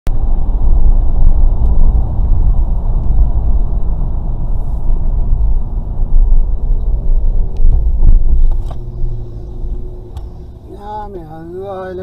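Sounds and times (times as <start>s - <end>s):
low vehicle rumble: 0.1s - 12.0s.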